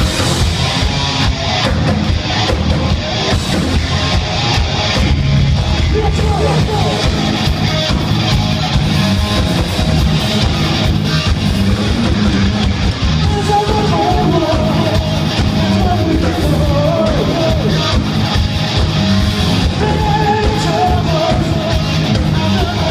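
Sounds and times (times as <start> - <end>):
distorted electric guitar: 0.0 - 22.9
drum kit: 0.0 - 22.9.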